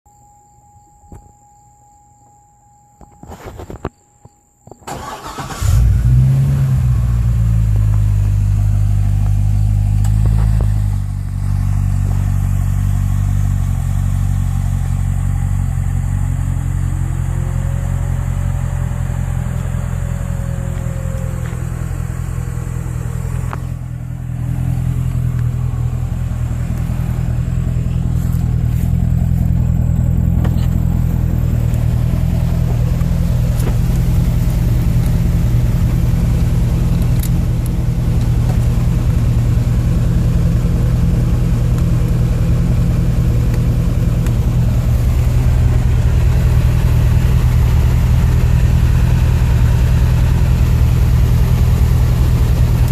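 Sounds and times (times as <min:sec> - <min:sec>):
car engine starting and idling: 0:04.8 - 0:52.9.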